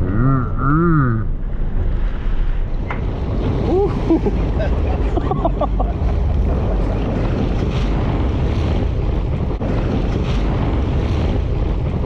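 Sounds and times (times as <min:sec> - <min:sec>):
wind rushing over microphone: 0:00.0 - 0:12.0
waves washing against boat: 0:01.4 - 0:12.0.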